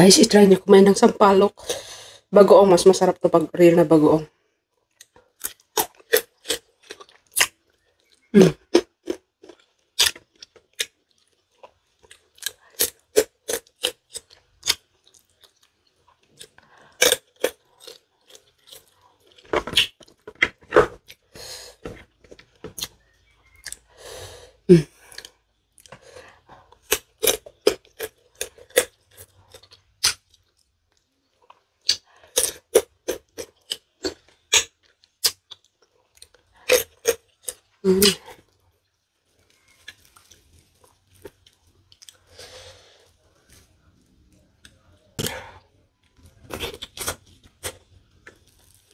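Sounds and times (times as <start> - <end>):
crunching and chewing pods: 4.5 - 24.0, 24.6 - 48.9.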